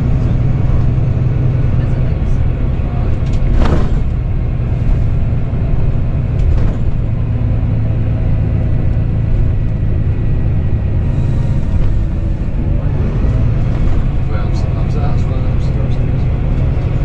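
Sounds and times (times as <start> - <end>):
diesel engine drone: 0.0 - 17.0
road and tyre noise: 0.0 - 17.0.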